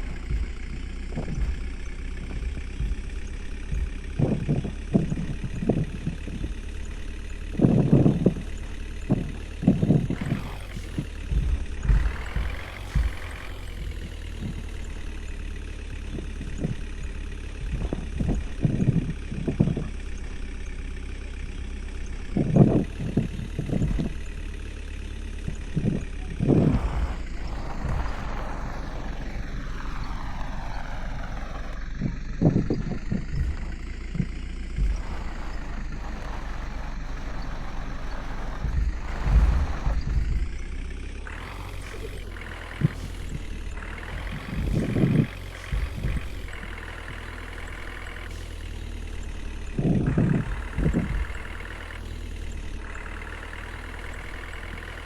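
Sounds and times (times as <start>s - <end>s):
truck engine running: 0.0s - 55.0s
vehicle knocks and rattles: 0.0s - 55.0s.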